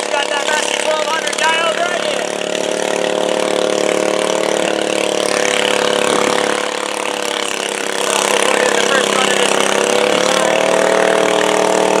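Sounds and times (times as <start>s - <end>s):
farm tractor engine idling: 0.0s - 12.0s
garden tractor engine idling: 0.0s - 12.0s.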